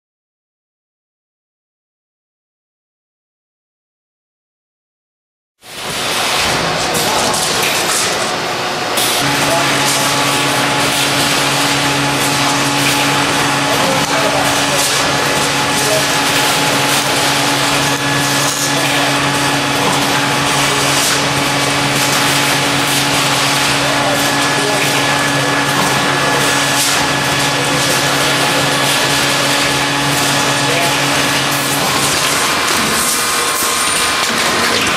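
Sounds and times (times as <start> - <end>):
machine humming: 5.6 - 34.9.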